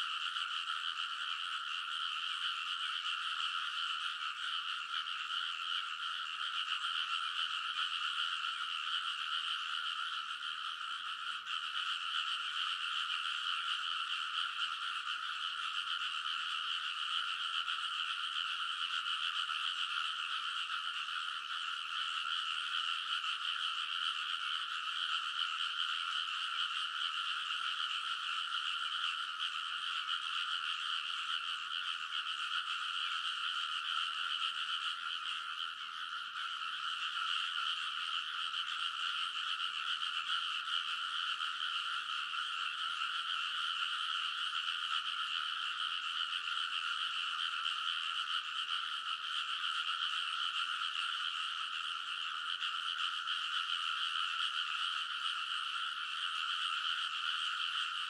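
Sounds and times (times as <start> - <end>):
frogs calling in chorus: 0.0 - 58.0.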